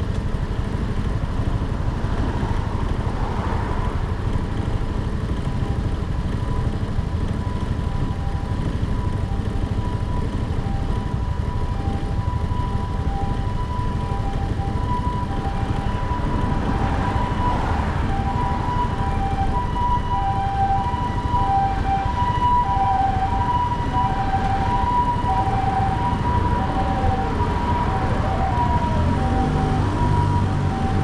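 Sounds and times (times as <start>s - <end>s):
wind and road noise: 0.0s - 31.0s
two-tone ambulance siren: 1.3s - 31.0s
wailing siren: 2.2s - 31.0s.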